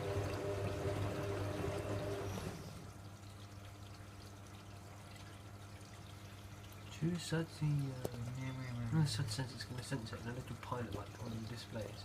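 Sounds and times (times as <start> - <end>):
washing machine taking in water: 0.0 - 12.0
water trickling in drum: 0.0 - 12.0.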